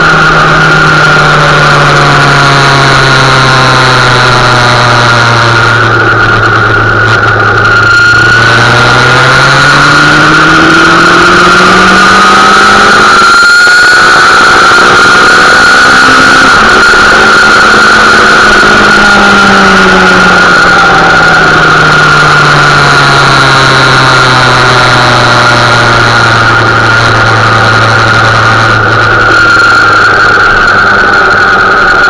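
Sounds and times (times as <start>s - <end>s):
motorcycle engine: 0.0s - 32.0s
steady high whine: 0.0s - 32.0s.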